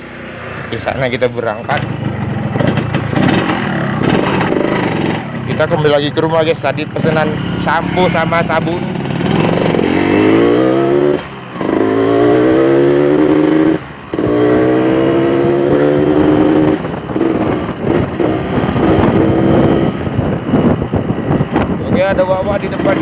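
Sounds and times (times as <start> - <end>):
motorcycle engine accelerating: 1.6 - 23.0.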